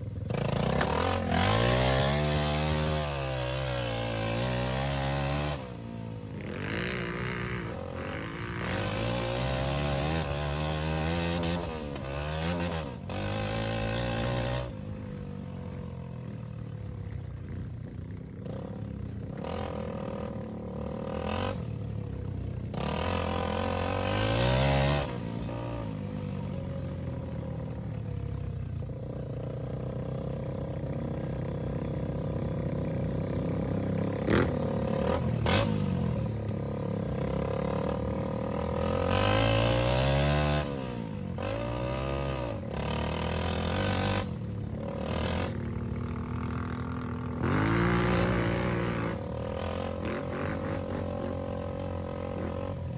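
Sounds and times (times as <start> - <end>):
go-kart engine revving: 0.1 - 15.2, 18.4 - 26.4, 31.3 - 52.9.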